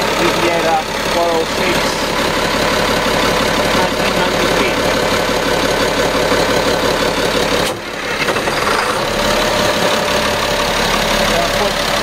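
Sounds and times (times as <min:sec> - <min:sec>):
marine diesel engine running: 0:00.0 - 0:12.0.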